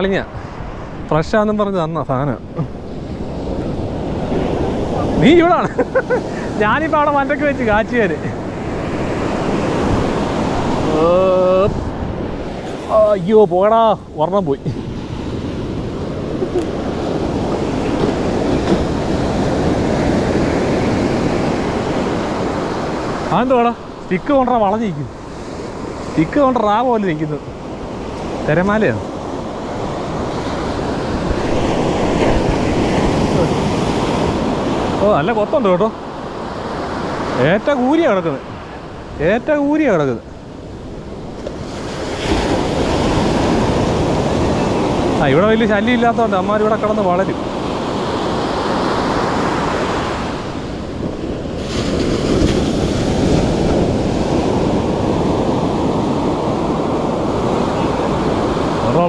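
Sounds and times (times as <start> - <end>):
waves breaking on sand: 0.0 - 59.0
wind buffeting microphone: 0.0 - 59.0.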